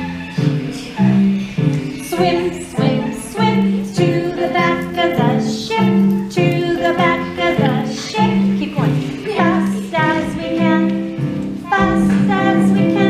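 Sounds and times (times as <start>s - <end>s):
children singing opera: 0.0s - 13.0s
recorded instrumental accompaniment: 0.0s - 13.0s.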